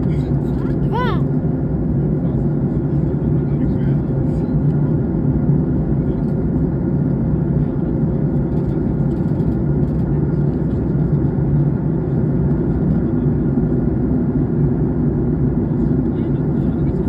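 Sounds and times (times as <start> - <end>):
airliner engines and airflow rush: 0.0 - 17.0.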